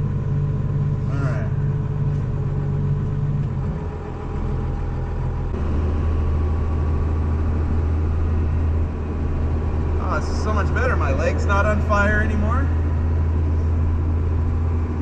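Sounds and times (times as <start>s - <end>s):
diesel engine drone in cab: 0.0s - 15.0s.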